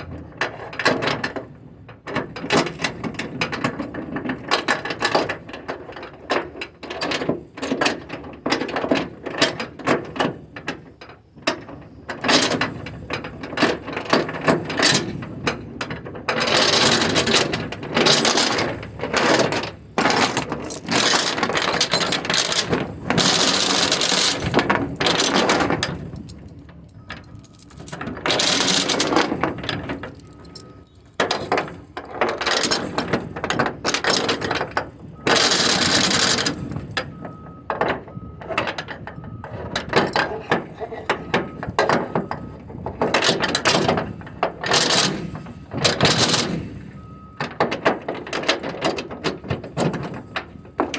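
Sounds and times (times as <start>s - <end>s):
chain clanking and rattling: 2.4s - 10.8s, 11.5s - 50.9s.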